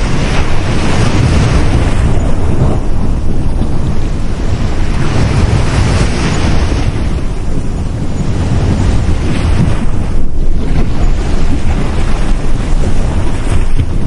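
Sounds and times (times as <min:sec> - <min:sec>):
sea waves breaking: 0:00.0 - 0:14.0
wind buffeting microphone: 0:00.0 - 0:14.0.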